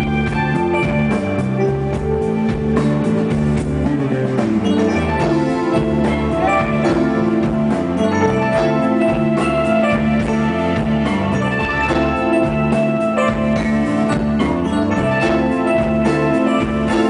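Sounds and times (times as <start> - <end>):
blues band playing live: 0.0 - 17.0.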